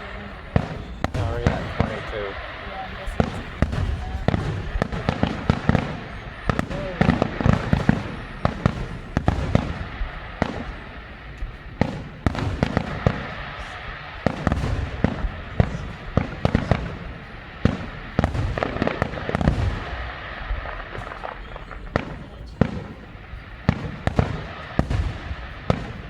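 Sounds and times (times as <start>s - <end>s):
echoing booms: 0.0s - 26.0s
fireworks banging: 0.0s - 26.0s
fireworks crackling: 0.0s - 26.0s.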